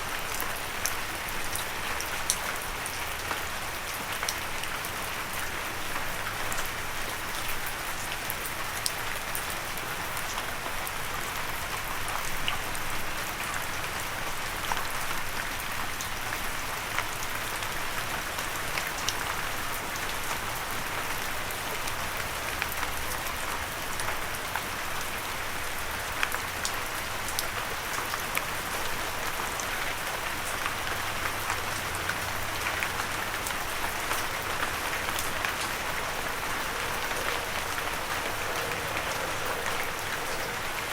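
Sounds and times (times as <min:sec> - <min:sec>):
gentle rain pattering: 0:00.0 - 0:40.9.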